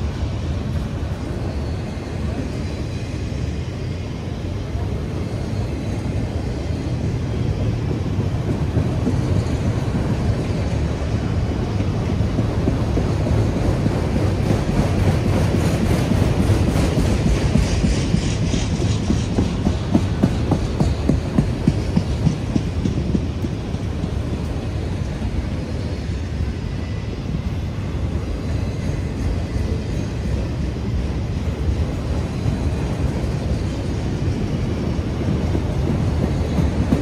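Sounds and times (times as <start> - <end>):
steel wheels rumbling on rail: 0.0 - 37.0.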